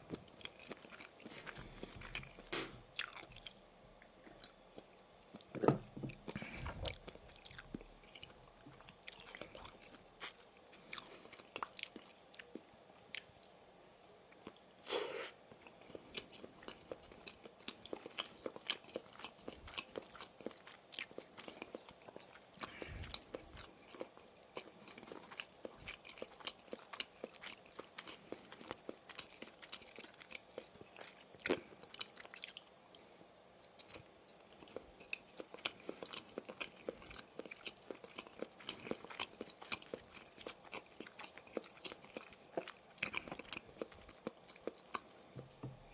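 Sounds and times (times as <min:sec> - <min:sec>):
person chewing wetly: 0:00.0 - 0:05.5, 0:06.1 - 0:13.5, 0:15.5 - 0:33.1, 0:33.7 - 0:45.9.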